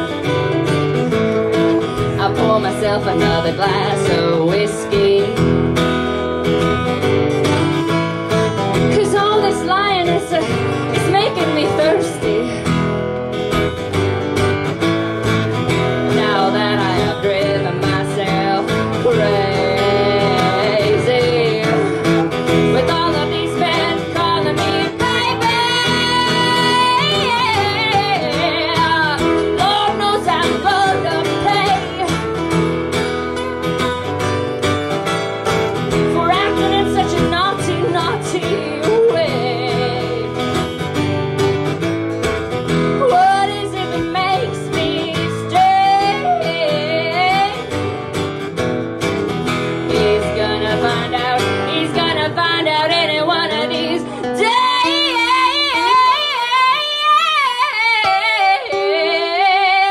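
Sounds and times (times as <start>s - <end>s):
band playing country song: 0.0s - 59.9s
pitch-bending guitar lead line: 0.0s - 59.9s
strummed acoustic guitar: 0.0s - 59.9s.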